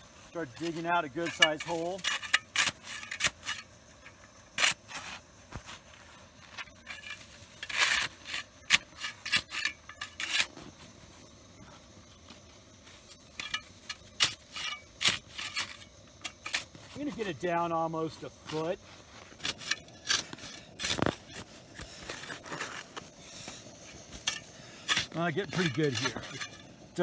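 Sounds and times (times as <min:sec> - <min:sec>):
shovel scraping and crunching snow: 0:00.0 - 0:27.0.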